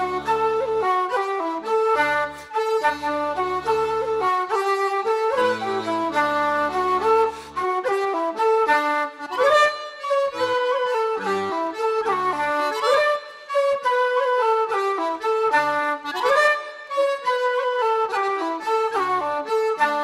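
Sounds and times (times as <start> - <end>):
wooden flute playing: 0.0 - 20.0.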